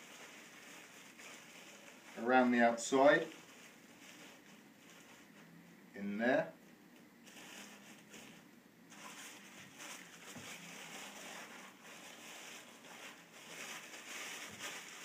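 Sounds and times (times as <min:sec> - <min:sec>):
tissue paper crinkling: 0:00.0 - 0:05.4, 0:07.2 - 0:15.0.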